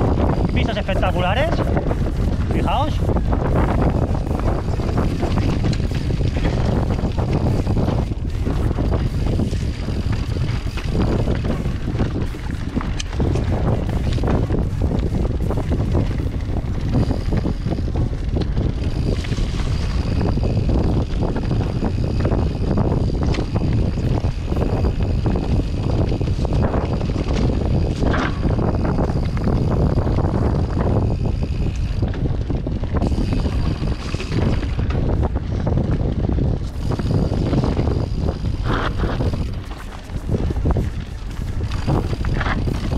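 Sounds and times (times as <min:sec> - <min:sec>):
mountain bike rattling: 0:00.0 - 0:42.9
wind buffeting microphone: 0:00.0 - 0:42.9.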